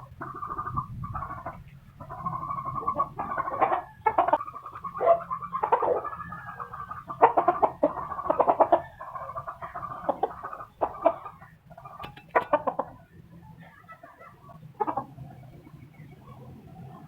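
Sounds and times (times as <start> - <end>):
hen clucking: 0.0 - 17.0.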